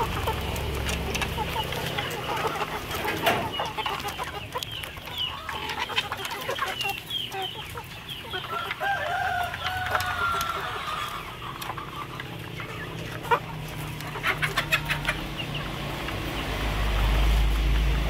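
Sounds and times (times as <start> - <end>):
drawn-out chicken call: 0.0 - 18.0
young chickens clucking and peeping: 0.0 - 18.0.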